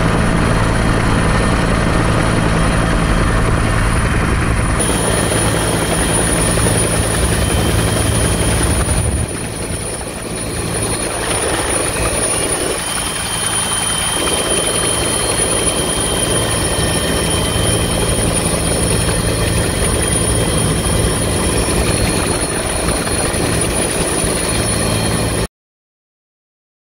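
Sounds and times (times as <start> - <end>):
helicopter rotor and engines: 0.0 - 25.5.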